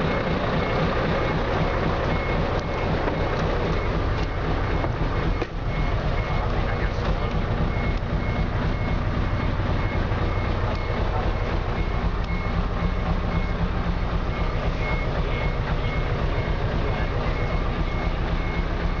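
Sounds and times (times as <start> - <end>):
diesel truck engine running: 0.0 - 19.0
high repeating beep: 0.6 - 19.0.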